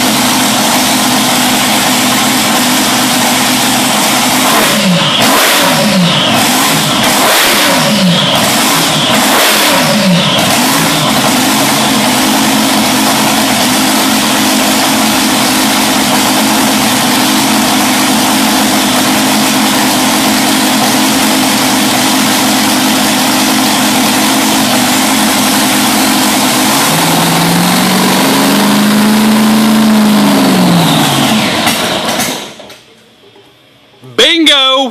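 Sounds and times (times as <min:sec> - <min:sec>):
boat engine revving and idling: 0:00.0 - 0:32.3.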